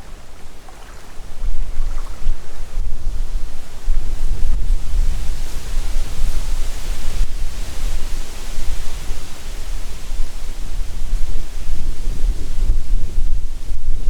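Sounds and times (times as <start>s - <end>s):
gust hissing through trees: 0.0s - 14.0s
wind buffeting microphone: 0.0s - 14.0s.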